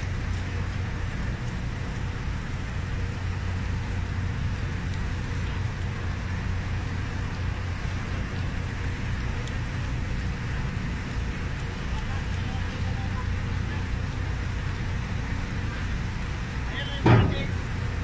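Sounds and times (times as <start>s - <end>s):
engine rumble inside car: 0.0s - 18.0s.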